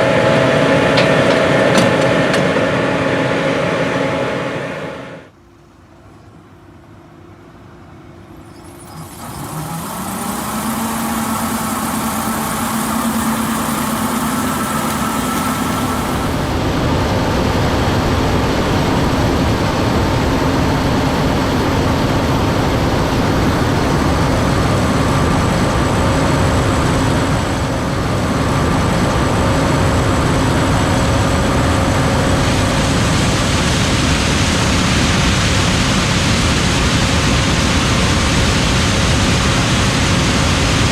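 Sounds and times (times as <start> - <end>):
combine harvester engine and threshing: 0.0 - 5.2, 7.6 - 40.9.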